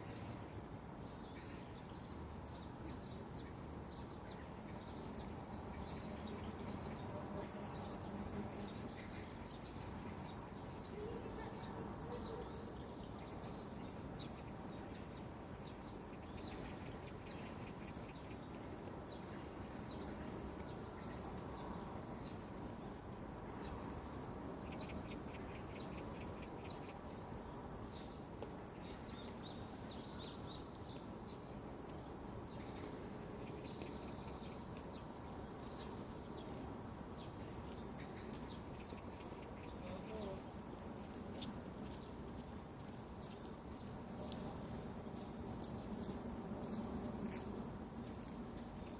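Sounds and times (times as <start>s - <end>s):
low outdoor hiss: 0.0s - 48.9s
small birds chirping: 0.0s - 48.9s.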